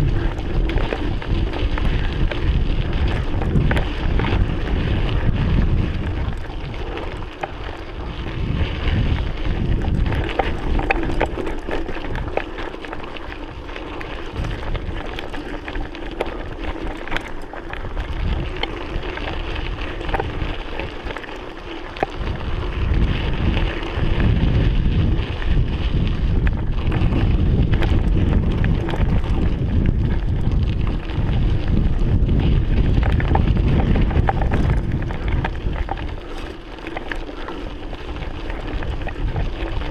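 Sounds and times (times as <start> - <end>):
bike clicks and rattles: 0.0 - 39.9
wind buffeting microphone: 0.0 - 39.9.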